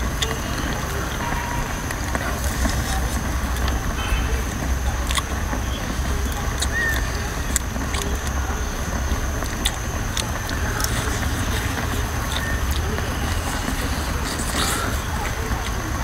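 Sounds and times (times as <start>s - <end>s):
hissing slurp: 0.0s - 16.0s.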